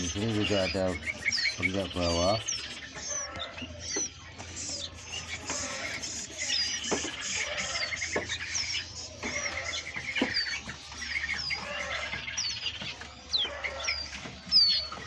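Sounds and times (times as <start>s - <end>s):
songbirds whistling and trilling: 0.0s - 15.0s.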